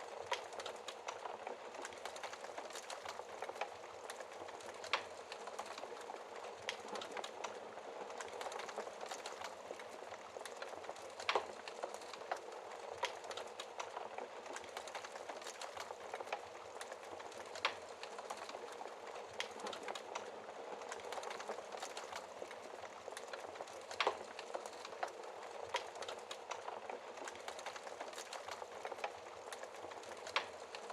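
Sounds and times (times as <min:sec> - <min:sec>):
burning logs crackling and popping: 0:00.0 - 0:30.9.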